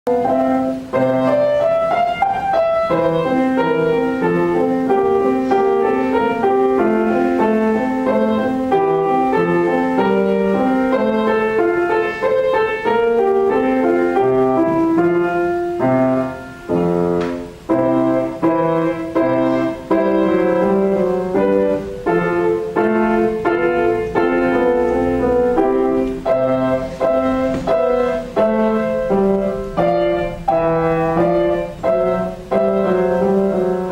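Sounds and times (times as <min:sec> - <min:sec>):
solo classical piano piece: 0:00.0 - 0:33.9.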